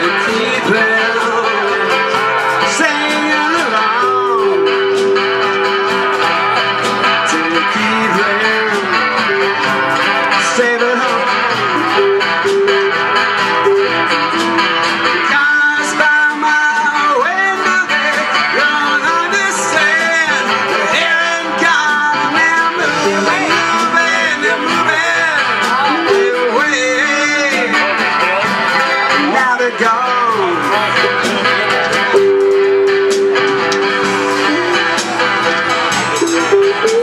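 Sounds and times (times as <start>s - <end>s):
live country blues band: 0.0s - 37.0s.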